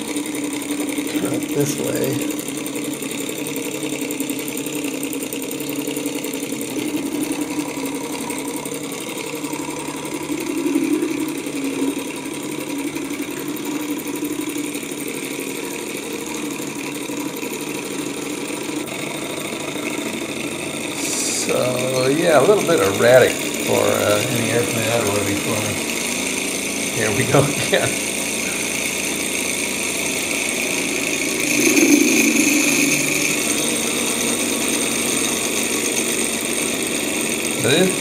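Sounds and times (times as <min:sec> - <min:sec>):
small engine mechanical clatter: 0:00.0 - 0:38.0.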